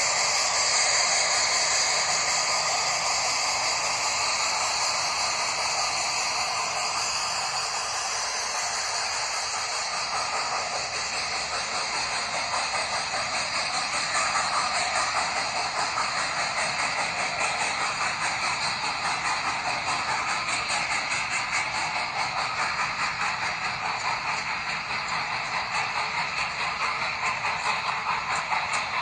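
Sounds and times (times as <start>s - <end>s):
model train hissing: 0.0s - 29.0s.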